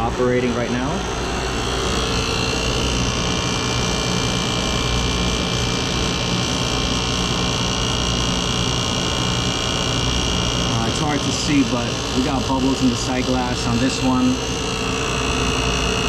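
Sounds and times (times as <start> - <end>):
compressor low hum: 0.0 - 16.0
high whine: 0.0 - 16.0.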